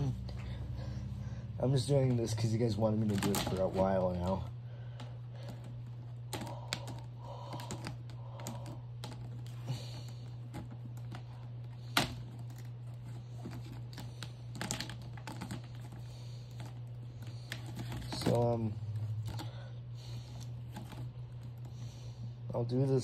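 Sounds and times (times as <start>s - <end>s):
steady low hum: 0.0s - 23.0s
plastic parts clicking and rattling: 1.9s - 19.6s, 20.3s - 21.8s.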